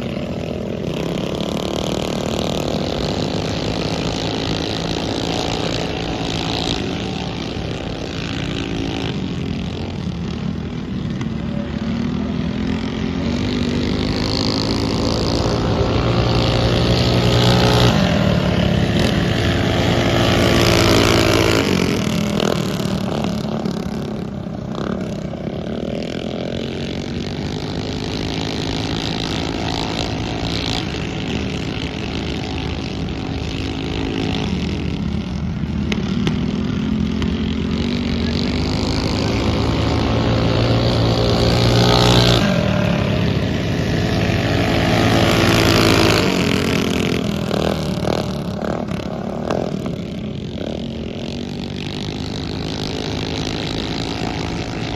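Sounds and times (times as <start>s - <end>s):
mini bike engines racing: 0.0s - 54.9s.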